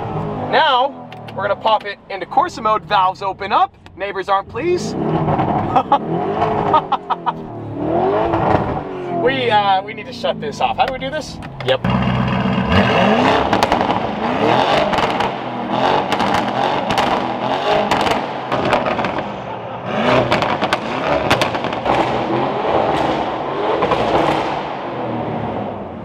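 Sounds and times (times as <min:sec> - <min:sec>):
exhaust crackles and pops: 0:00.0 - 0:07.6, 0:08.2 - 0:08.8, 0:10.0 - 0:24.8
car engine revving: 0:00.0 - 0:26.0.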